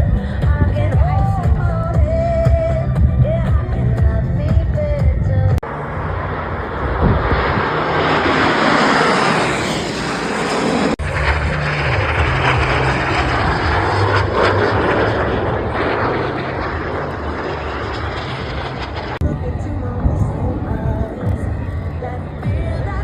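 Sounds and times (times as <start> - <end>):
jet engines roaring: 4.2 - 23.0.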